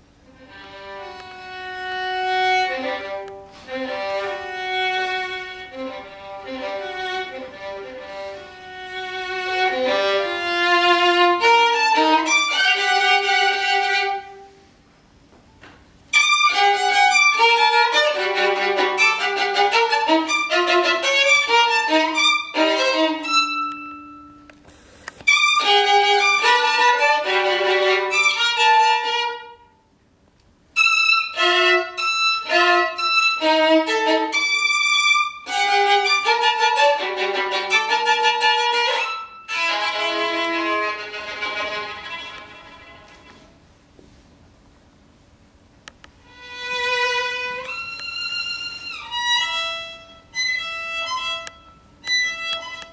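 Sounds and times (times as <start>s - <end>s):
solo violin melody: 0.0s - 14.7s, 16.1s - 30.0s, 30.7s - 43.6s, 46.2s - 52.9s.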